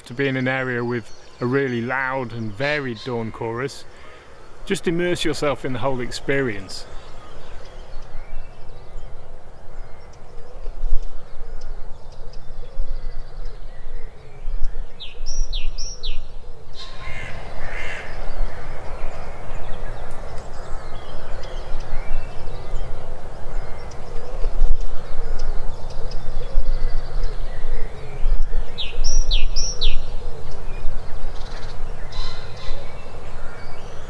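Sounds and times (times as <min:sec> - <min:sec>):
wild birds calling: 0:00.0 - 0:34.0.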